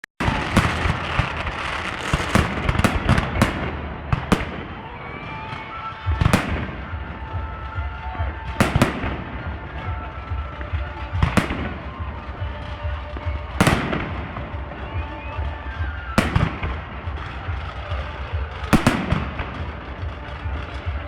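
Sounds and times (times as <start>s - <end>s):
continuous fireworks rumble: 0.2s - 21.0s
fireworks bursting with sharp bangs: 0.2s - 21.0s.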